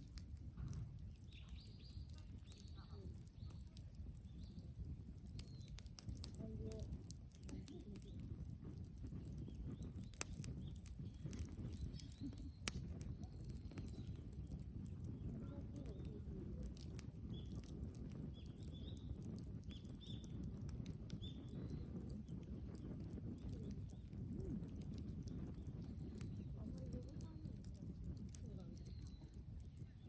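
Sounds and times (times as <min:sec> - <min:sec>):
bonfire burning and crackling: 0:00.0 - 0:30.0
sharp pops from fire: 0:00.0 - 0:30.0.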